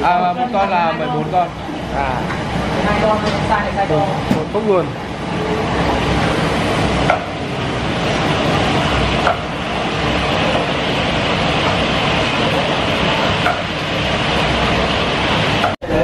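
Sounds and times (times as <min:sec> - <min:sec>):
gas burners and fans roaring: 0:00.0 - 0:16.0.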